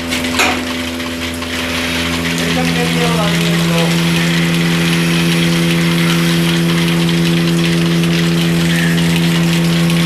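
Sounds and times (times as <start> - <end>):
machine motor humming: 0.6 - 10.0.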